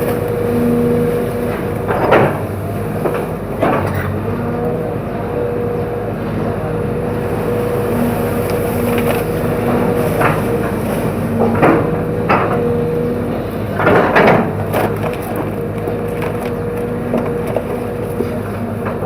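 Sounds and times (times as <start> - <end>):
hydraulic excavator whining: 0.0 - 19.0.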